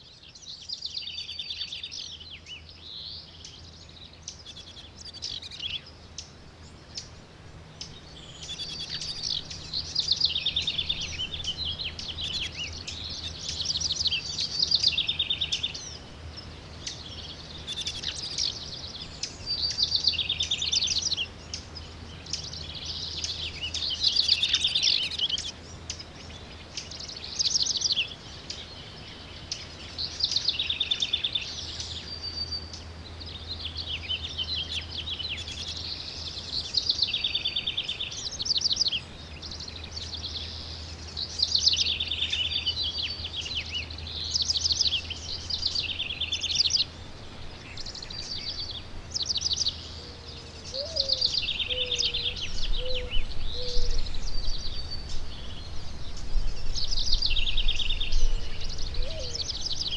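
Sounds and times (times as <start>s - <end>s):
songbird chirping and trilling: 0.0s - 59.9s.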